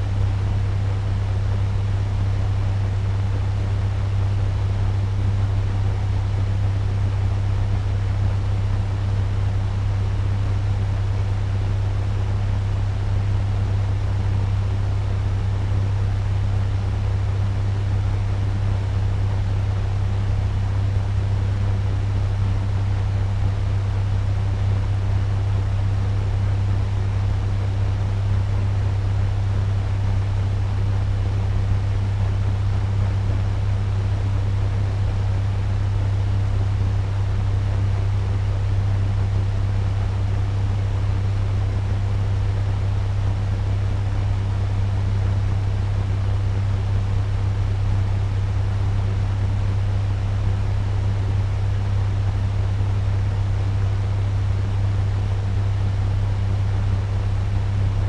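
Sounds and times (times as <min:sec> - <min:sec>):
fan rushing air: 0:00.0 - 0:58.0
low motor hum: 0:00.0 - 0:58.0.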